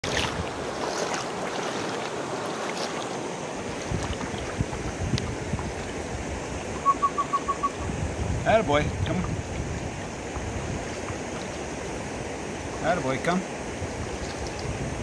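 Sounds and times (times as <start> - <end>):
wind buffeting microphone: 0.0 - 1.0, 3.6 - 15.0
river water over rocks: 0.0 - 15.0.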